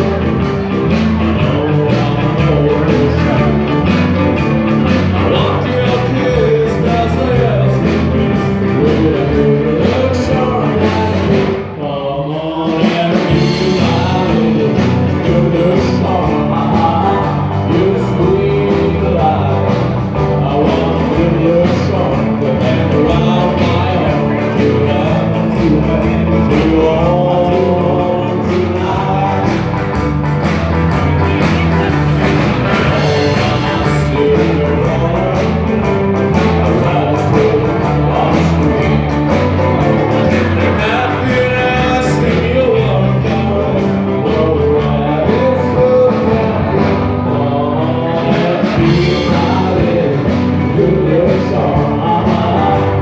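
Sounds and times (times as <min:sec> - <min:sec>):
live rock band playing: 0:00.0 - 0:53.0
person singing: 0:00.0 - 0:53.0.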